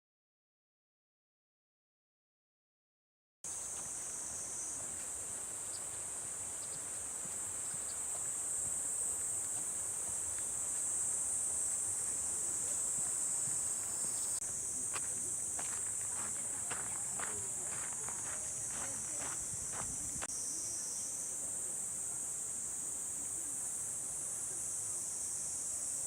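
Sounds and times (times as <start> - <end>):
faint background hiss: 3.5 - 26.0.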